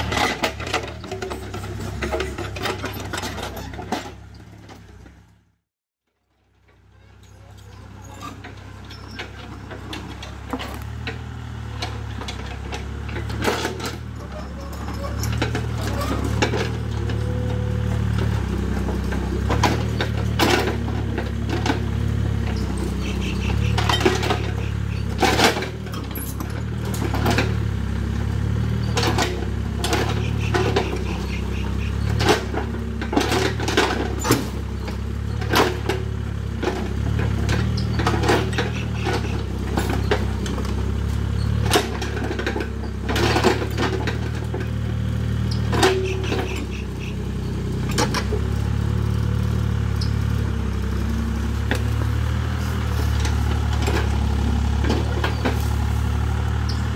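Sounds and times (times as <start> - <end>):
metallic clanks of excavator bucket: 0.0 - 5.2, 7.0 - 11.2, 11.8 - 27.8, 28.7 - 48.6, 52.9 - 56.9
excavator diesel engine running: 0.0 - 5.6, 6.4 - 56.9.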